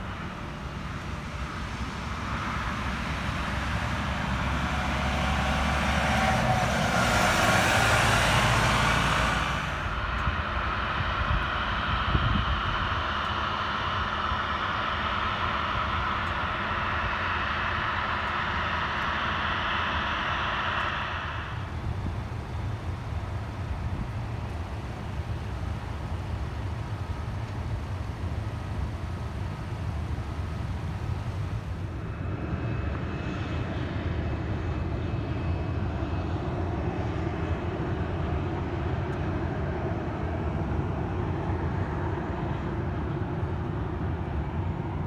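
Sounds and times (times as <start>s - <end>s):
jet engines whining and roaring: 0.0s - 45.0s
low outdoor rumble: 0.0s - 45.0s.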